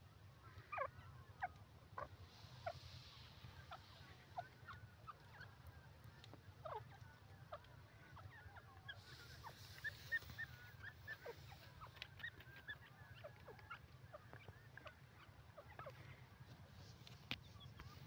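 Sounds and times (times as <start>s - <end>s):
faint low rumble: 0.0s - 18.0s
bird chirps and calls: 0.4s - 18.0s.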